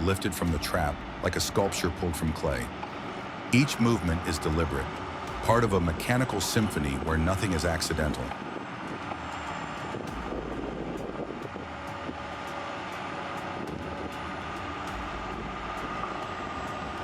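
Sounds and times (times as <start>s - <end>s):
diesel engine under load: 0.0s - 17.0s
faint steady whine: 0.0s - 17.0s.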